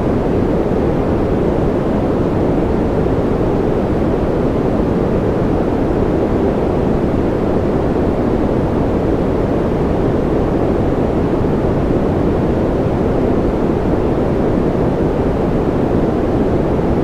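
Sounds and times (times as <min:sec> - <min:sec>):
white noise rush: 0:00.0 - 0:17.0.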